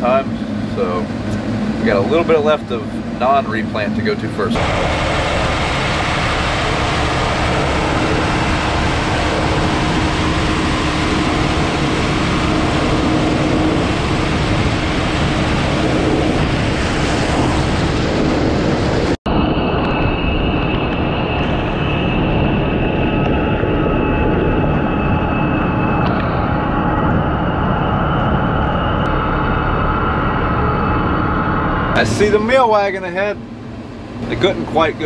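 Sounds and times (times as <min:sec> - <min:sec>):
steady high whine: 0:00.0 - 0:35.0.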